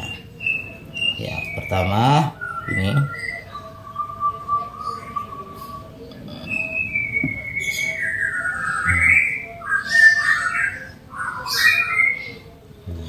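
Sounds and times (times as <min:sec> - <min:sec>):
bird whistling: 0:00.0 - 0:12.6.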